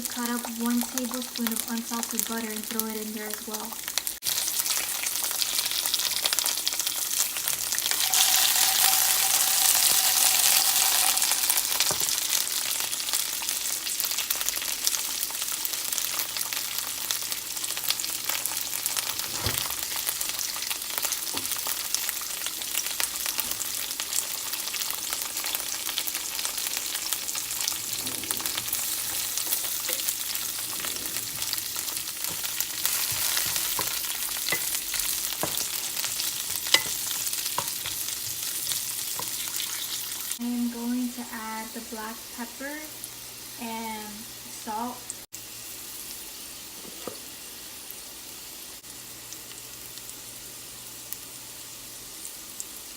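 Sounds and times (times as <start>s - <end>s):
beans sizzling in a skillet: 0.0s - 52.9s.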